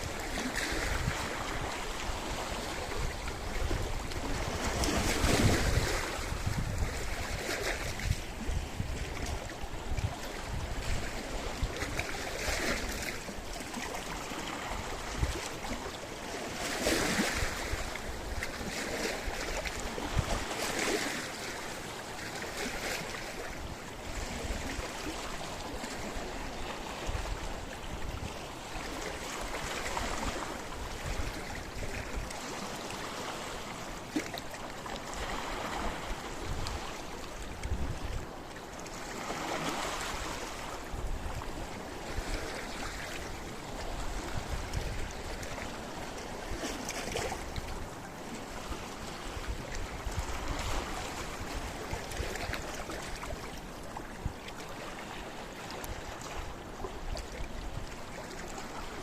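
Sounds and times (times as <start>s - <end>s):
wind rumble on microphone: 0.0s - 15.9s, 16.6s - 21.3s, 23.0s - 33.2s, 35.1s - 59.0s
sea waves on rocky shore: 0.0s - 59.0s.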